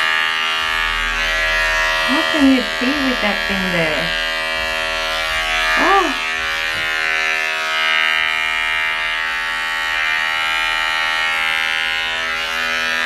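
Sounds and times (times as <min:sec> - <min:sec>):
electric clippers humming: 0:00.0 - 0:13.0.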